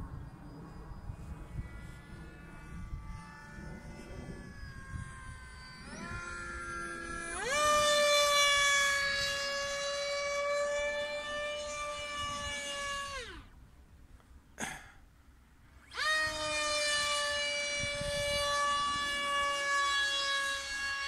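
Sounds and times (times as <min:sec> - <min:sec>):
model jet motor whine: 0:00.0 - 0:13.6, 0:15.4 - 0:21.0.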